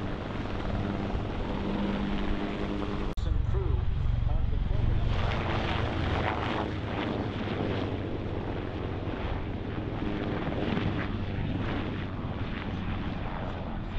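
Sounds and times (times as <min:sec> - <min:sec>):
helicopters flying low past: 0:00.0 - 0:13.9.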